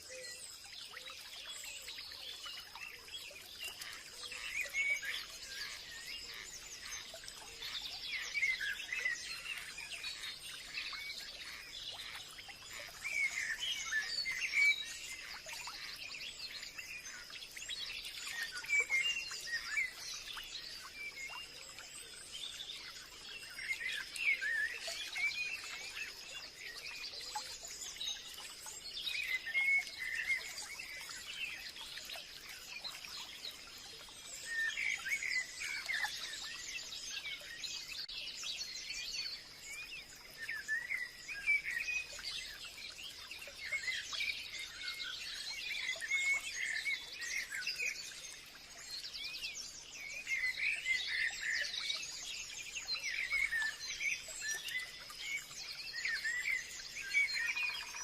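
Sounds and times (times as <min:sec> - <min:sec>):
small birds chirping and singing: 0:00.0 - 0:58.0.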